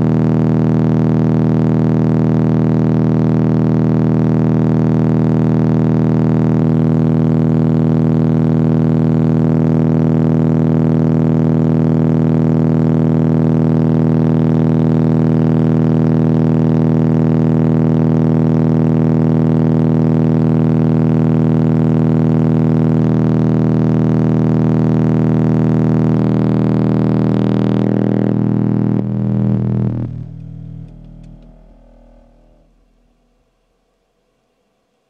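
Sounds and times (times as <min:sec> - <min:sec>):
buzzy bass test tone: 0:00.0 - 0:33.8.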